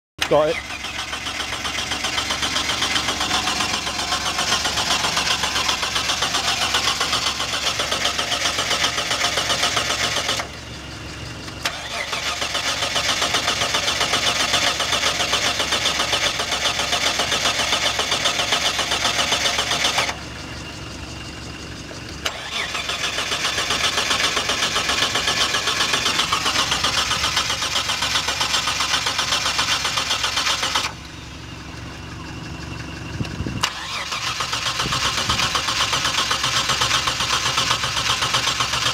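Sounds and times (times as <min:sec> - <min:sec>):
engine starter cranking: 0:00.2 - 0:10.6, 0:11.4 - 0:20.2, 0:22.0 - 0:31.2, 0:33.1 - 0:38.9.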